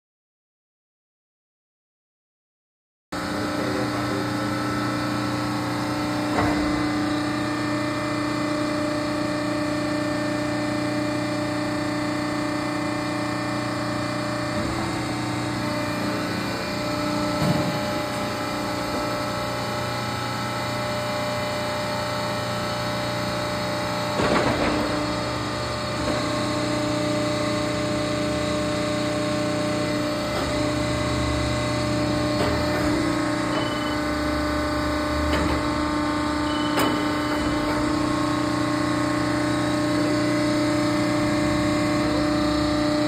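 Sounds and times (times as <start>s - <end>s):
hydraulic machine humming and whining: 3.2s - 43.0s.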